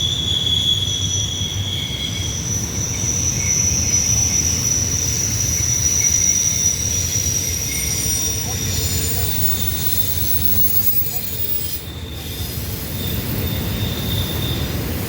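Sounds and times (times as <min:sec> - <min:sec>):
train wheels squealing on rail: 0:00.0 - 0:15.0.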